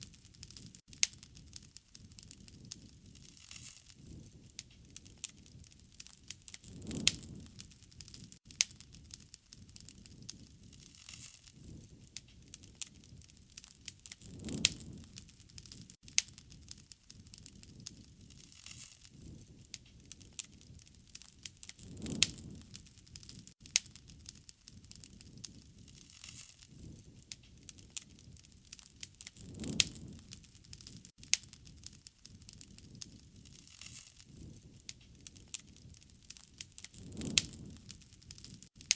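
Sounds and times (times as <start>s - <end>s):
low rush of flame: 0.0s - 38.9s
wood fire crackling and popping: 0.0s - 38.9s.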